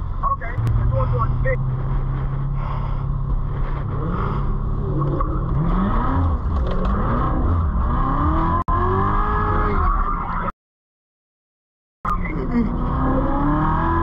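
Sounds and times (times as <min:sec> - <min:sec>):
car engine revving: 0:00.4 - 0:10.3, 0:12.2 - 0:14.0.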